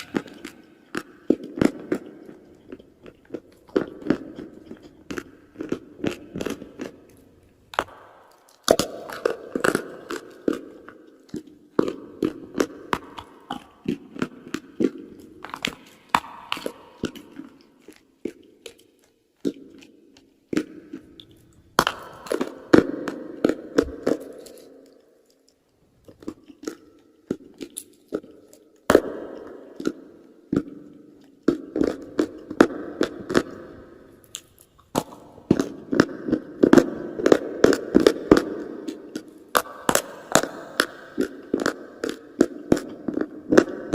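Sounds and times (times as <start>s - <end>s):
chewing and crunching: 0.0s - 43.9s.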